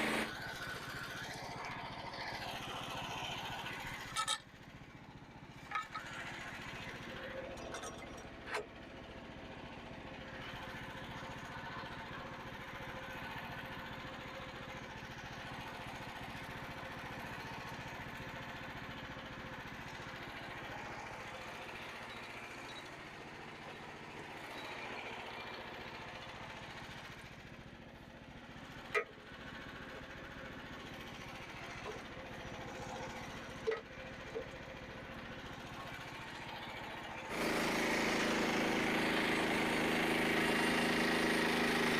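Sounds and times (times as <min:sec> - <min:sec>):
bandsaw mill engine running: 0:00.0 - 0:41.9.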